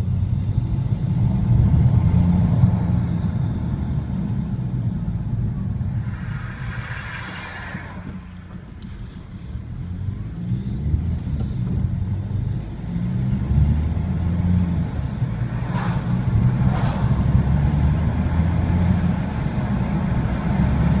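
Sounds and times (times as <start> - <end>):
car engine drone: 0.0 - 21.0.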